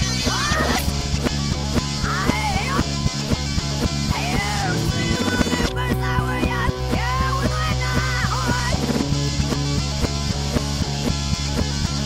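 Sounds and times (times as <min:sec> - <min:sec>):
electric guitar rock music: 0:00.0 - 0:12.0
fast drum beat: 0:00.0 - 0:12.0.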